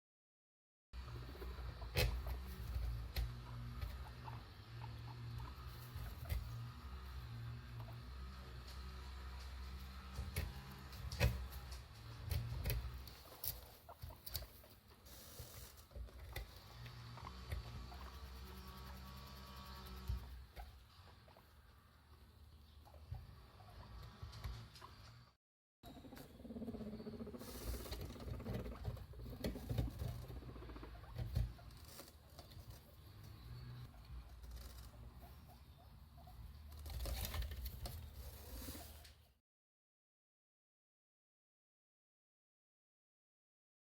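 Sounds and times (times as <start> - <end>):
guinea pigs scuffling: 1.0 - 25.3, 26.0 - 39.3.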